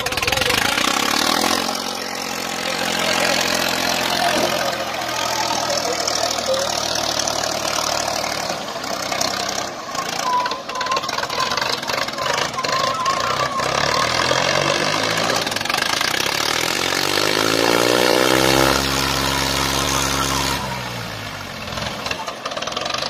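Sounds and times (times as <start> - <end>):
tractor engines under load: 0.0 - 23.0.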